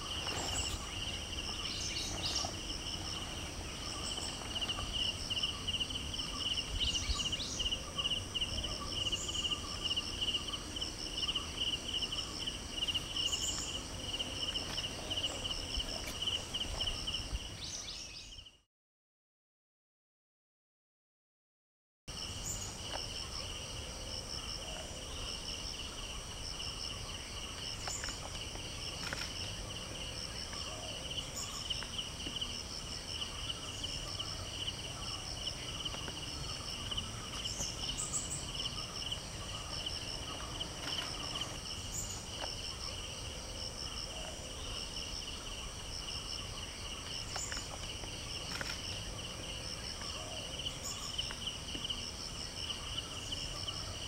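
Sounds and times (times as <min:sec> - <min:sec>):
crickets trilling: 0:00.0 - 0:18.5, 0:22.1 - 0:54.0.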